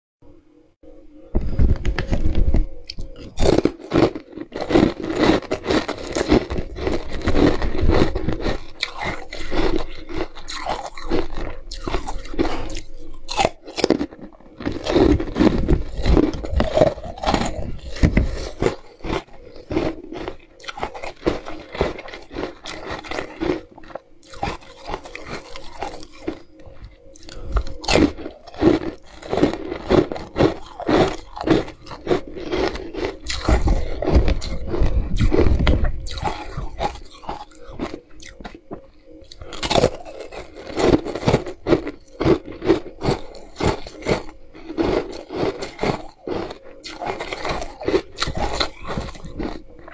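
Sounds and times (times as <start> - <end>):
crunching of frozen ice: 1.8 - 49.9.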